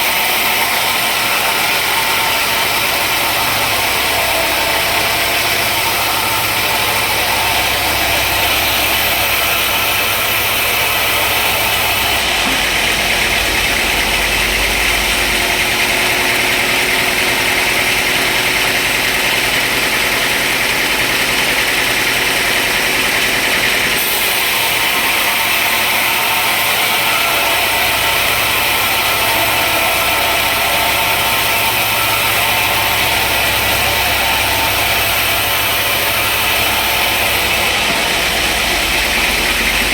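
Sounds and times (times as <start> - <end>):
low machinery hum: 0.0 - 20.2, 26.4 - 39.9
sawmill machinery hiss: 0.0 - 39.9.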